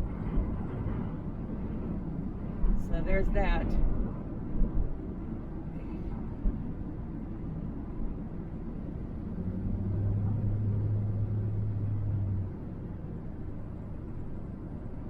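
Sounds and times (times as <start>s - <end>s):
low steady drone: 0.0s - 15.0s
van road and engine rumble: 0.0s - 15.0s.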